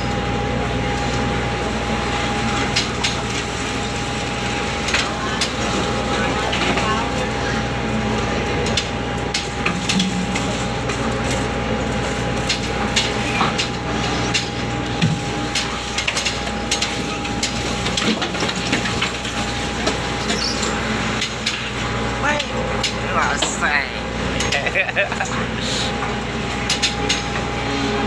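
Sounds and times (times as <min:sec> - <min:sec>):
ship machinery droning with whine: 0:00.0 - 0:28.0.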